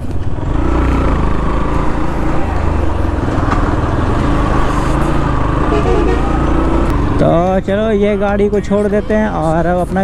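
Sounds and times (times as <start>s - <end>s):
motorcycle engine running: 0.1s - 8.2s.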